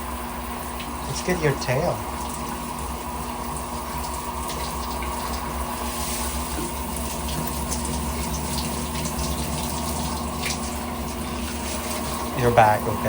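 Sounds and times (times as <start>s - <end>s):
tap water running and splashing: 0.0s - 13.0s.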